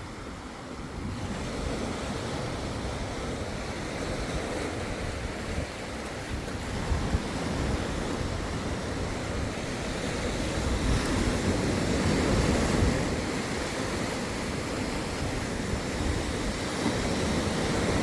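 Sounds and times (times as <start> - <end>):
waves washing onto beach: 0.0 - 18.0
wind buffeting microphone: 0.0 - 18.0.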